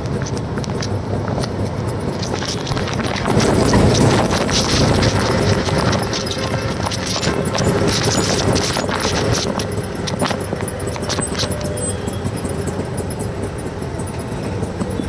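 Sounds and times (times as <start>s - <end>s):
metal body rattling: 0.0s - 15.0s
small engine running: 0.0s - 15.0s.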